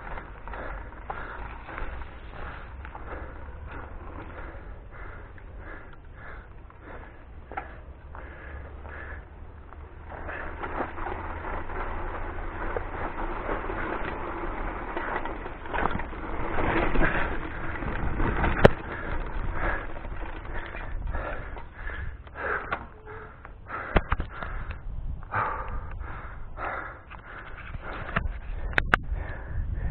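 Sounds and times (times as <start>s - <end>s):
wind rumble on microphone: 0.0s - 22.5s, 23.1s - 29.9s
tyres crunching over gravel: 0.0s - 24.6s
bike rattling over bumps: 0.0s - 29.9s.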